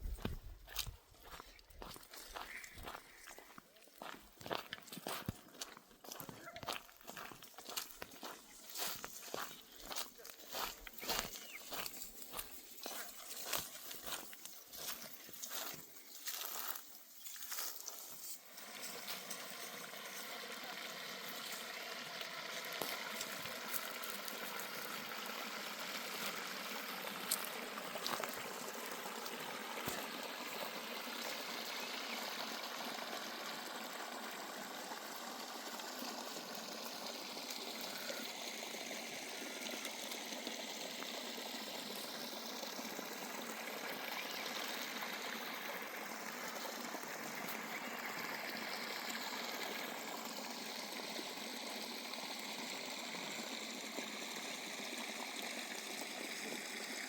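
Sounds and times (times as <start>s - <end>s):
river flowing over stones: 6.8s - 57.0s.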